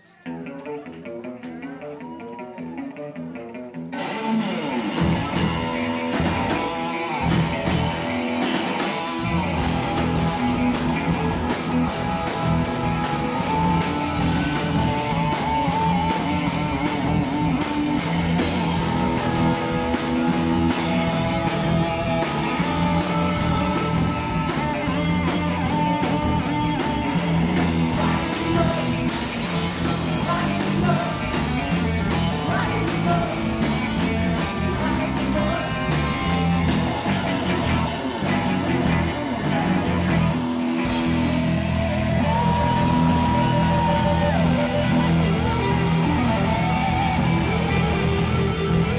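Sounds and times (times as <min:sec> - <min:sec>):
bass guitar: 0:00.0 - 0:48.9
electric guitars: 0:00.0 - 0:48.9
drum kit beat: 0:05.0 - 0:48.9.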